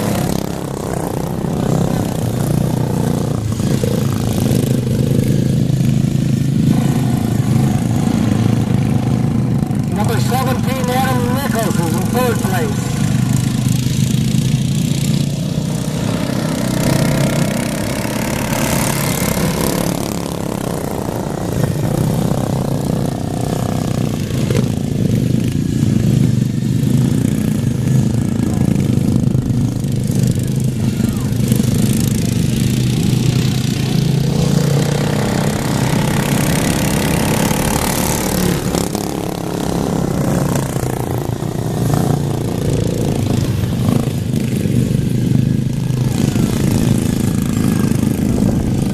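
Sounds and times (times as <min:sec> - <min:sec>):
racing lawn mower engines: 0:00.0 - 0:48.9.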